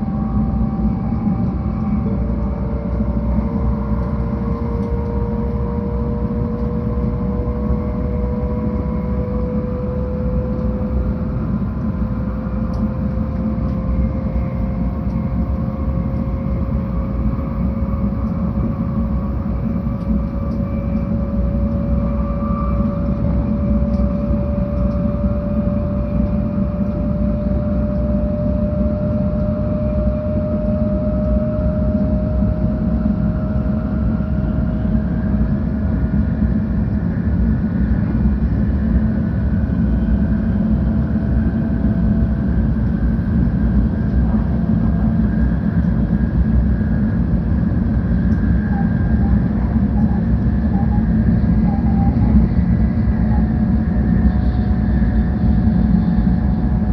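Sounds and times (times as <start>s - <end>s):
train wheels rumbling on track: 0.0s - 56.9s
train whine rising in pitch: 0.0s - 56.9s.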